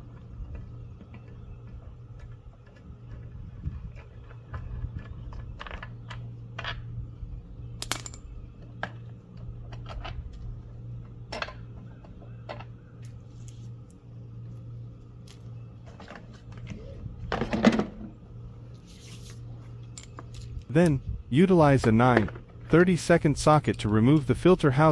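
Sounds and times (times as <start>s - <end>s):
low hum: 0.0s - 24.9s.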